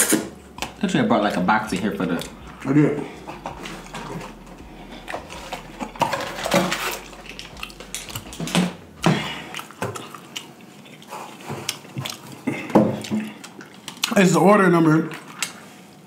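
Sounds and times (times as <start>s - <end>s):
mouth eating noises: 0.0s - 14.3s.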